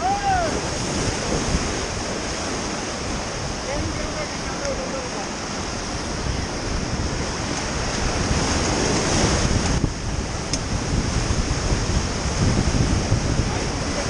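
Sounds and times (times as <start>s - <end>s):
rapids rushing and splashing: 0.0s - 14.0s
wind buffeting microphone: 0.0s - 14.0s.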